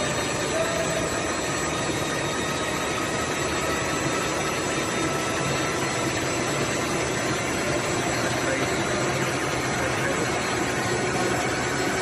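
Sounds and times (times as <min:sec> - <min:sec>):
faint steady tones: 0:00.0 - 0:12.0
production line mechanical hum: 0:00.0 - 0:12.0.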